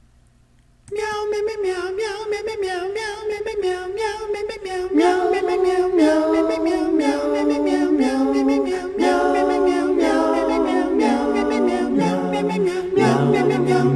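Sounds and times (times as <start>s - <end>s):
a cappella voices in harmony: 0.9s - 13.9s.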